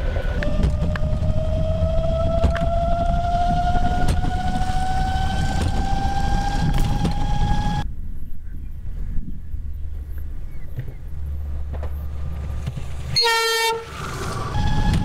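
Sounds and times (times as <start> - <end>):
wheels rumbling on rail: 0.0 - 7.9, 8.8 - 15.0.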